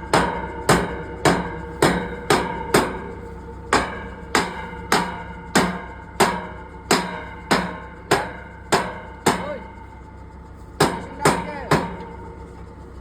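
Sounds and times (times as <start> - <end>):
hammer striking steel pipe: 0.0 - 9.8, 10.8 - 12.2.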